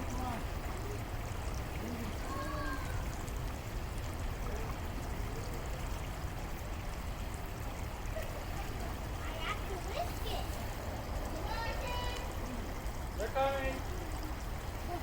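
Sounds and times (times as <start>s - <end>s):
creek water running: 0.0s - 15.0s.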